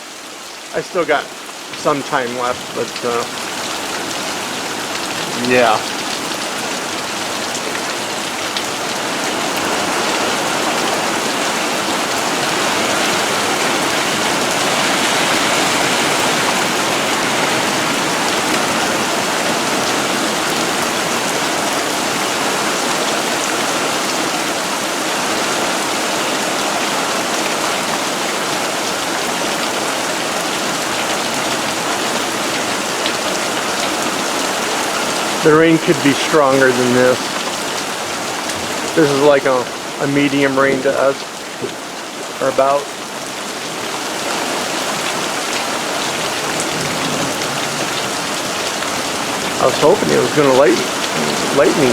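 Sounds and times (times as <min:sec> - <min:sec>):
heavy rain pattering: 0:00.0 - 0:51.9.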